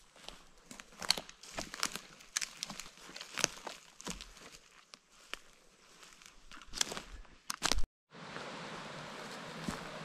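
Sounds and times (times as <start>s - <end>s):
footsteps crunching through twigs: 0.0s - 7.9s, 9.2s - 10.0s.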